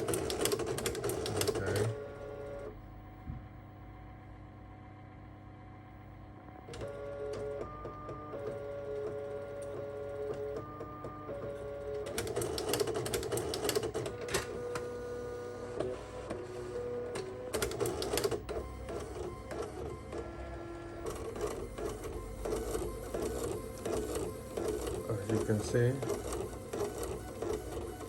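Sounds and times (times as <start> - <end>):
print carriage clicking and rattling: 0.0 - 2.1, 6.7 - 28.0
printer motors whining: 0.0 - 28.0.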